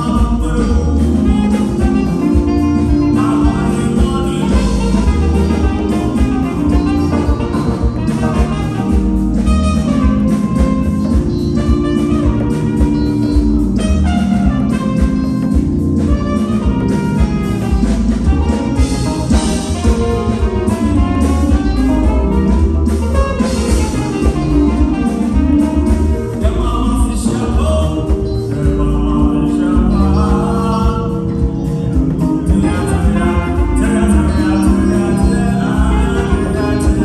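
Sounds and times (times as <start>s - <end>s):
band playing music: 0.0s - 37.0s
heavy steady bass: 0.0s - 37.0s.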